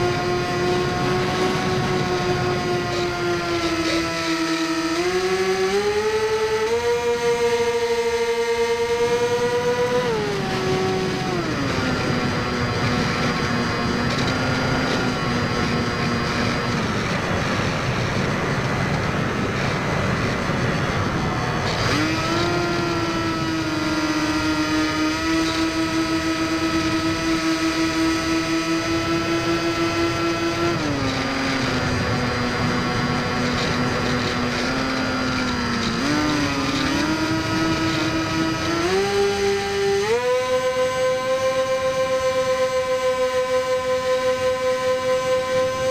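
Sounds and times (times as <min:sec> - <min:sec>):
electric motor and propeller whining: 0:00.0 - 0:45.9.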